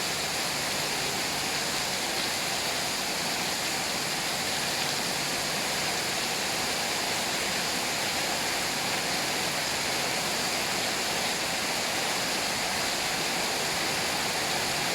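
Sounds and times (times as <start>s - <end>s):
rushing water: 0.0s - 14.9s.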